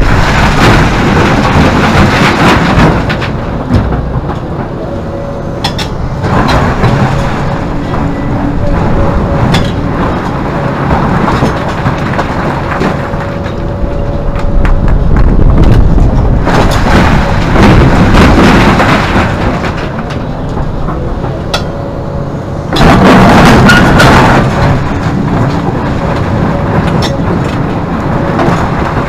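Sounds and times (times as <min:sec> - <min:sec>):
diesel excavator working: 0:00.0 - 0:29.0.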